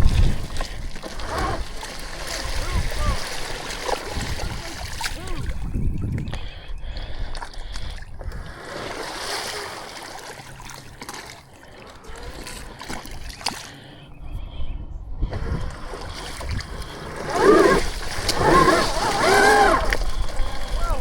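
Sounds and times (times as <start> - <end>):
wet mud splashing and squelching: 0.0 - 13.9, 15.4 - 21.0.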